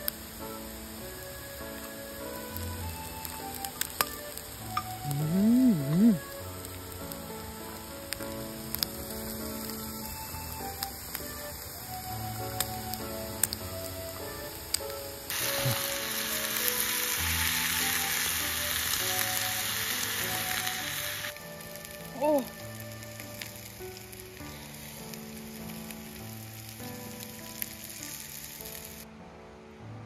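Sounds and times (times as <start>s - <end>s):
meat sizzling in a skillet: 0.0s - 29.0s
background music: 0.0s - 30.0s.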